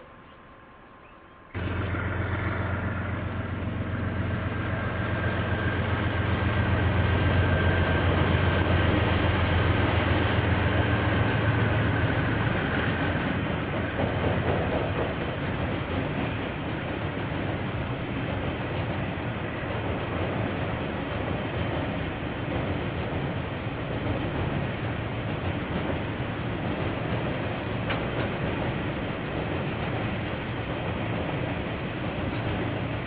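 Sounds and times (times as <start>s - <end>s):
locomotive engine drone: 0.0s - 33.0s
rail and wheel noise: 0.0s - 33.0s.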